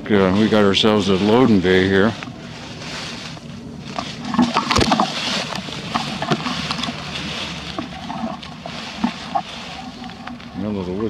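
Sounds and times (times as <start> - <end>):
branches brushing past: 0.1 - 11.0
footsteps through dry leaves: 0.1 - 11.0.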